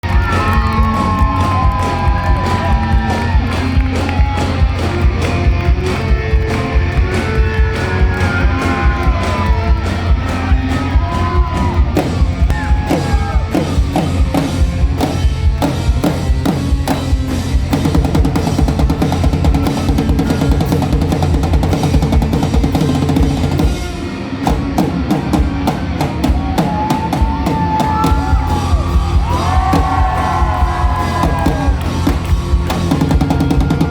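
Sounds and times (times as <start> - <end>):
rock drum kit played fast: 0.0 - 33.9.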